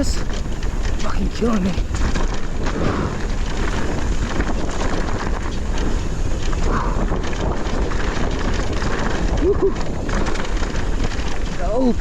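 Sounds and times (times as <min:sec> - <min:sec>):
bike rattles and clicks: 0:00.0 - 0:12.0
tyre rumble: 0:00.0 - 0:12.0
wind buffeting microphone: 0:00.0 - 0:12.0.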